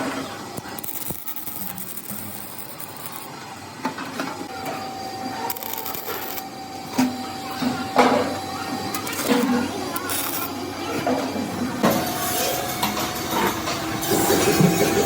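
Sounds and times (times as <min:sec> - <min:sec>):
workshop machine running: 0:00.0 - 0:15.0.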